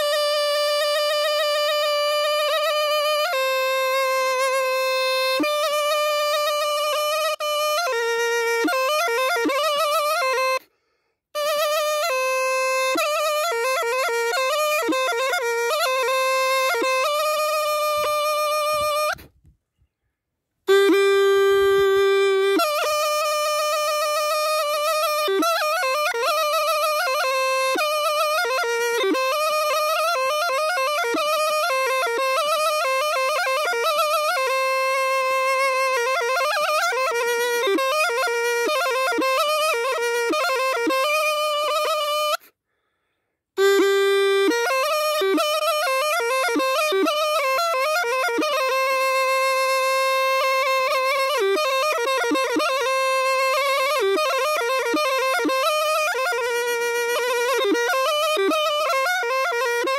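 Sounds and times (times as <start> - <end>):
zurna playing folk melody: 0.0 - 59.9.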